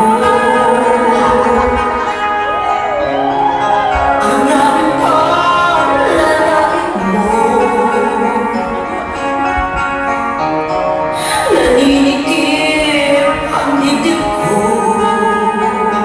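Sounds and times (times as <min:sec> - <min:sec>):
person singing: 0:00.0 - 0:10.3, 0:11.0 - 0:16.0
sustained instrumental chords: 0:00.0 - 0:16.0.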